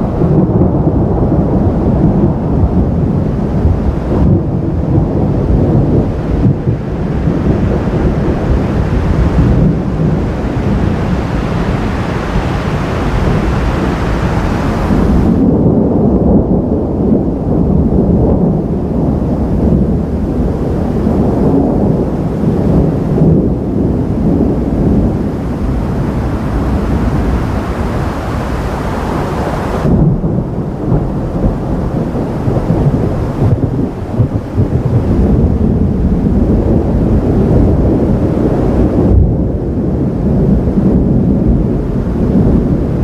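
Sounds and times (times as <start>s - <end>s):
thunder rumbling: 0.0s - 43.0s.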